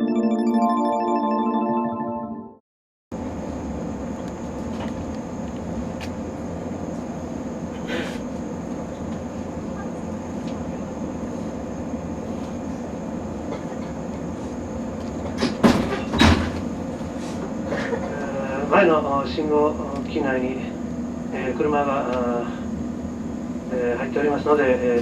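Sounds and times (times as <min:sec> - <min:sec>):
train car rumble and hum: 0:03.1 - 0:25.0.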